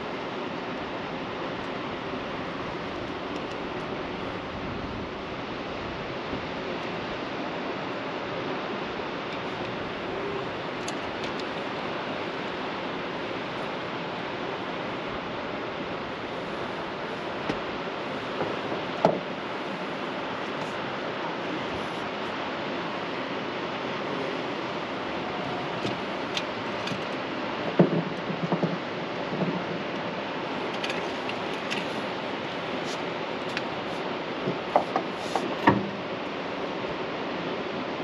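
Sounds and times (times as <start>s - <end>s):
river water rushing: 0.0s - 38.0s
wind: 0.0s - 38.0s.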